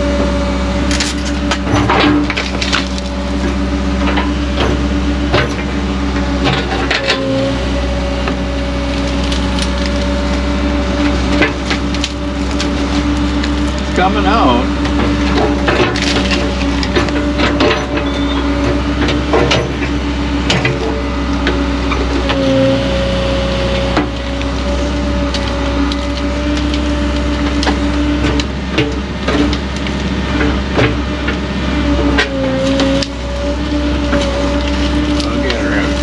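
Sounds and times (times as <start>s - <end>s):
excavator engine with hydraulic whine: 0.0s - 36.0s.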